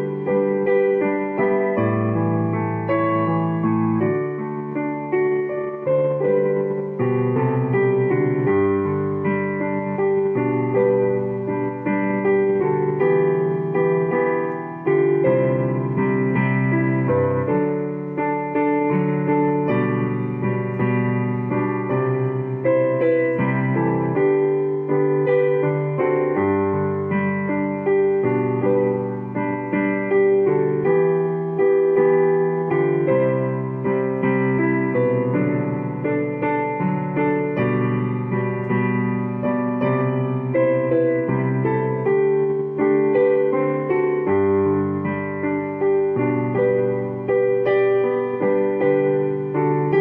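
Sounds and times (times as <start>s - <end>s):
hymn tune on piano: 0.0s - 50.0s.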